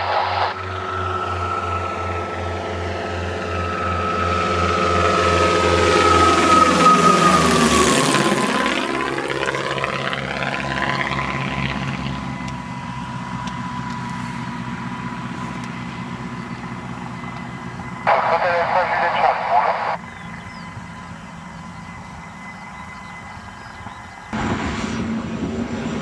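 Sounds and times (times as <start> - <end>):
propeller plane passing overhead: 0.0 - 26.0.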